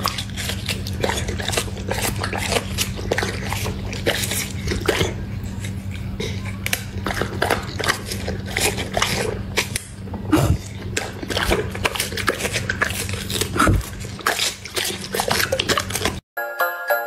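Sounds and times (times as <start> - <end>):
dog chewing wet crunches: 0.0 - 16.2.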